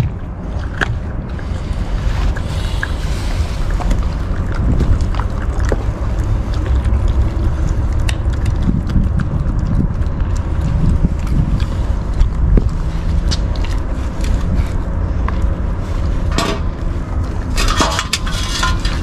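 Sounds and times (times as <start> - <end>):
puppies chewing and crunching food: 0.0 - 19.0
steady low rumble: 0.0 - 19.0.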